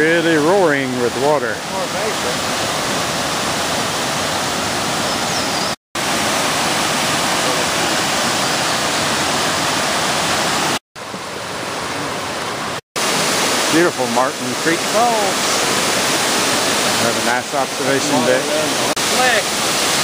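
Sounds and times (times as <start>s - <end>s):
whitewater rushing: 0.0s - 20.0s.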